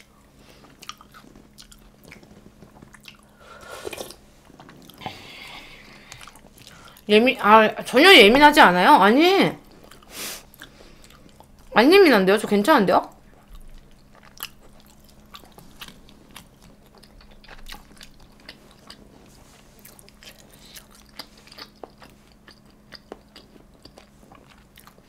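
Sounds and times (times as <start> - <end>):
person chewing food: 0.0 - 7.1, 9.6 - 11.7, 13.1 - 25.0.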